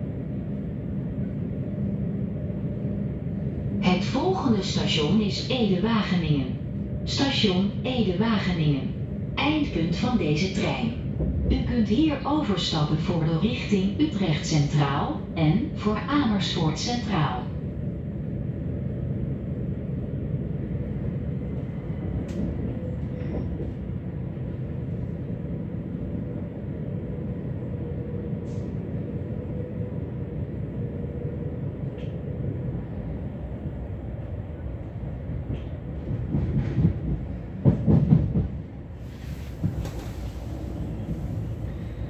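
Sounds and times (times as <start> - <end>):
faint train whine: 0.0 - 42.0
train rumbling on track: 0.0 - 42.0.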